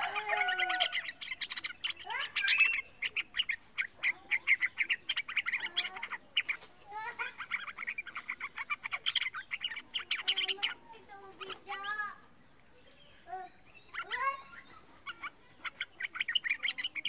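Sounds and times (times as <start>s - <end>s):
bird chattering song: 0.0s - 17.0s.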